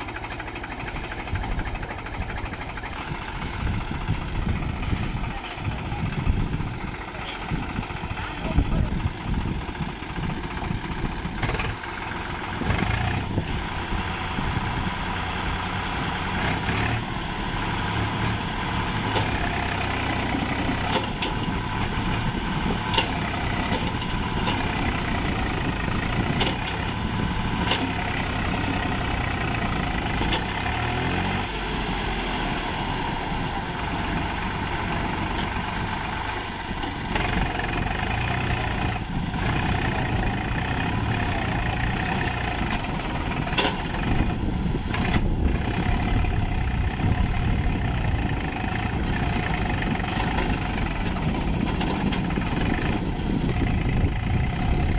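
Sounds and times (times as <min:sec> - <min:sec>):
tractor engine under heavy load: 0:00.0 - 0:54.9.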